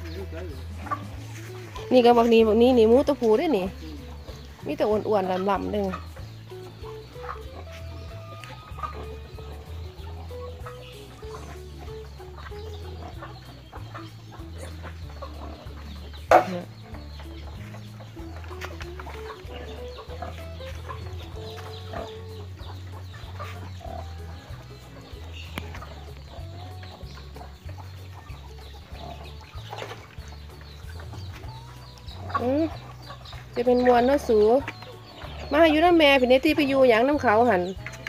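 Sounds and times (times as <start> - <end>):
background music with bass: 0.0 - 38.0
chickens clucking: 0.0 - 38.0.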